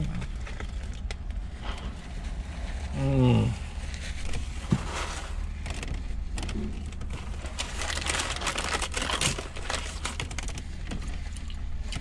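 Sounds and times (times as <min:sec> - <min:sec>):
paper wrapping rustling: 0:00.0 - 0:11.5.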